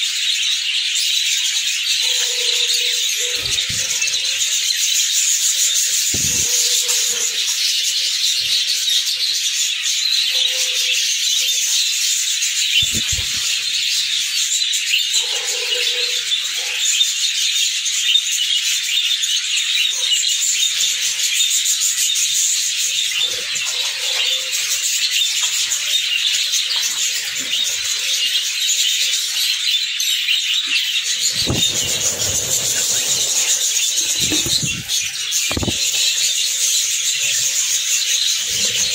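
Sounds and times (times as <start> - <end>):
budgerigars chattering and chirping: 0.2 - 38.9.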